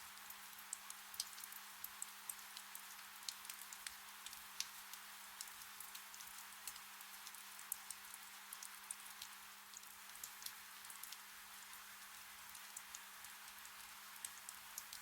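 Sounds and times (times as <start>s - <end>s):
rain drops ticking on leaves: 0.0s - 15.0s
soft rain hiss: 0.0s - 15.0s.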